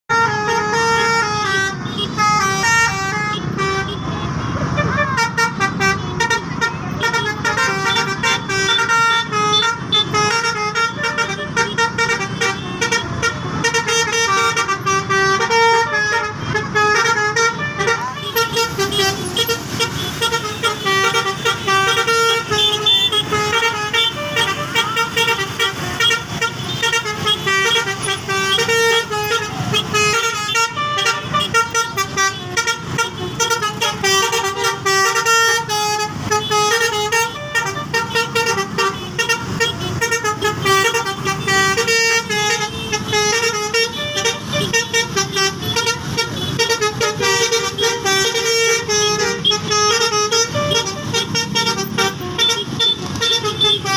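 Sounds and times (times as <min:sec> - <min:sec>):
multi-tone bus horn tune: 0:00.0 - 0:53.9.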